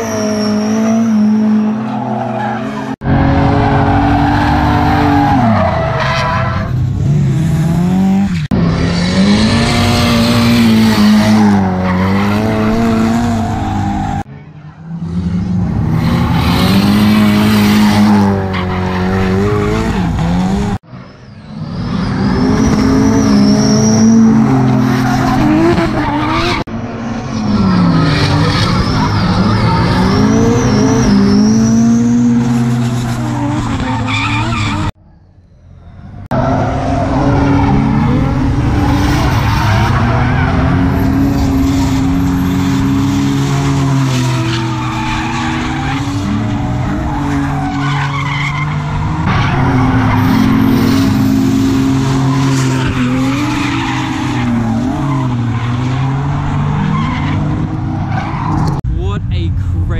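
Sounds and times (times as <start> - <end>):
car engines revving: 0.0 - 35.0, 35.6 - 59.9.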